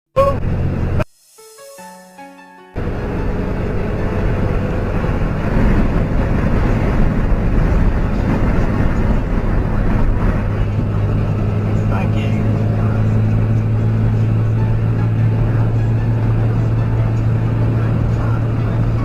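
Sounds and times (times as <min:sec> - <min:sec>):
low engine hum: 0:00.2 - 0:01.1, 0:02.8 - 0:19.0
road and wind noise: 0:00.2 - 0:01.1, 0:02.8 - 0:19.0.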